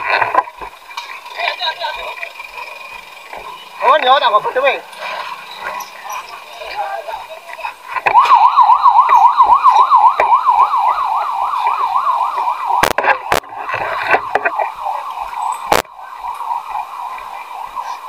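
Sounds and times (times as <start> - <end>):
emergency siren yelping: 0.1 - 18.0.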